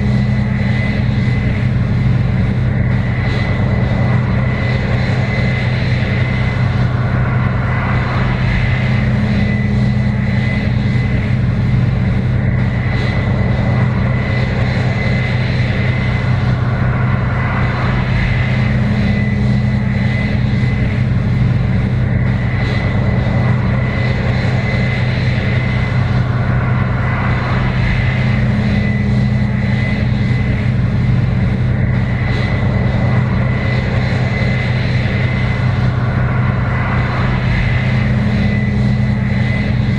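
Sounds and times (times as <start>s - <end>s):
combine harvester engine drone: 0.0s - 39.9s
steady high whine: 0.0s - 39.9s.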